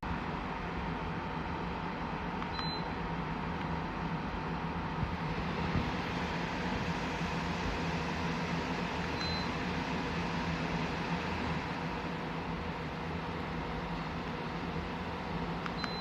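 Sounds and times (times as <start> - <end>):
air conditioner whirring: 0.0 - 16.0.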